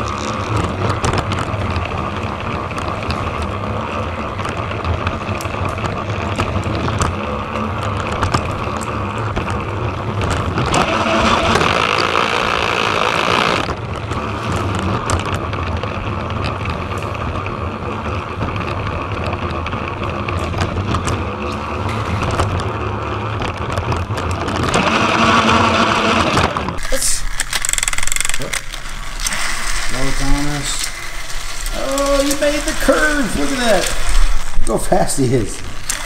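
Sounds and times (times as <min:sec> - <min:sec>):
toy train motor whirring: 0:00.0 - 0:36.0.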